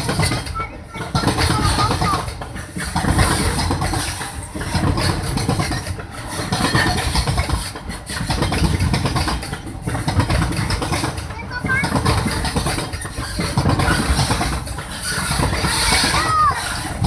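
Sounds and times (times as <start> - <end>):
freight train wheels clattering on rails: 0.0 - 17.0.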